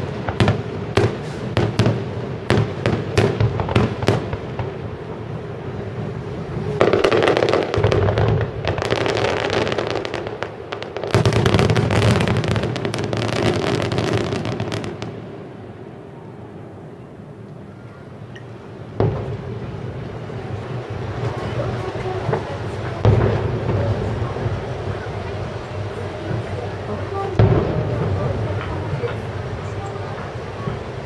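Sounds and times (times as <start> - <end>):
fireworks bangs: 0.0 - 16.1, 18.8 - 31.0
fireworks crackling: 0.0 - 16.7, 18.7 - 31.0.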